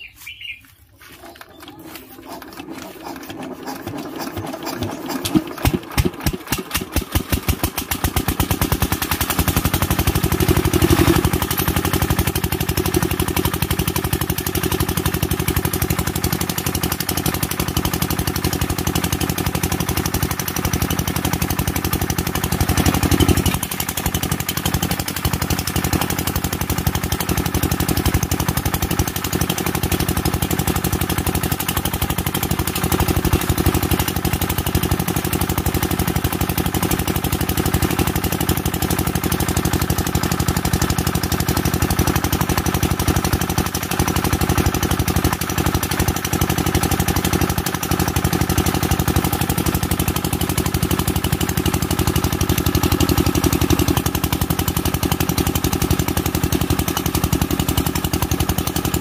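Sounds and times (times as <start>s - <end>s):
diesel engine starting and running: 0.1s - 59.0s.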